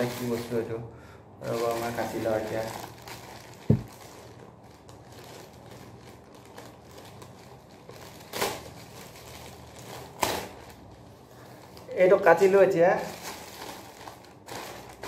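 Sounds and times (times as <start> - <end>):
plastic bag crinkling: 0.0 - 0.8, 1.4 - 15.0.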